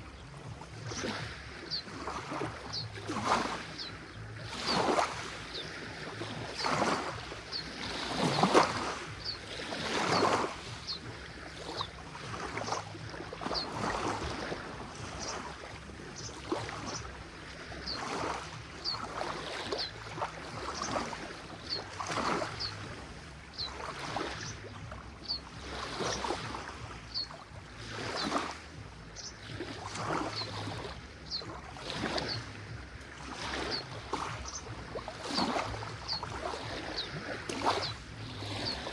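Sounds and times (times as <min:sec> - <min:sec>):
waves lapping on pebbly shore: 0:00.0 - 0:38.9.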